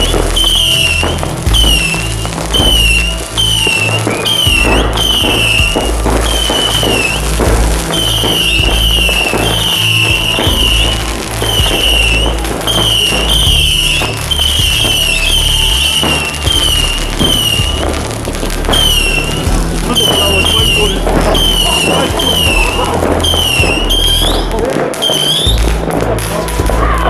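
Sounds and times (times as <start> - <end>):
background music: 0.0 - 27.0
fireworks crackling and popping: 0.0 - 27.0.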